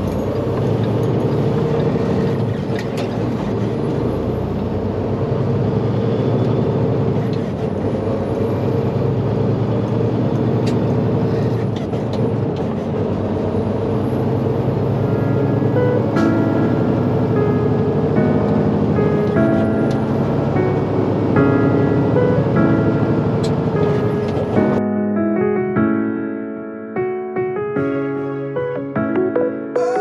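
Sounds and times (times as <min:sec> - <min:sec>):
truck diesel engine and road noise: 0:00.0 - 0:24.8.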